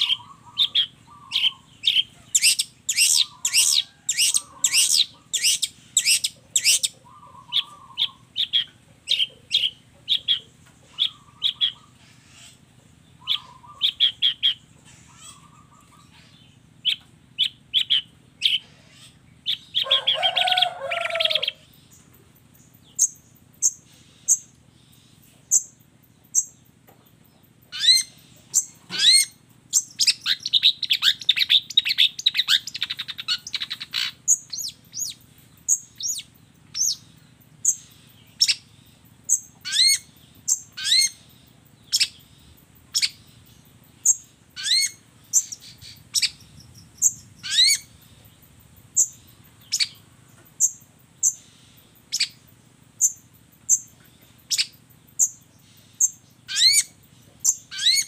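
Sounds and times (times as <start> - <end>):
faint low hum: 0.0 - 58.0
shrike singing varied song: 0.0 - 58.0.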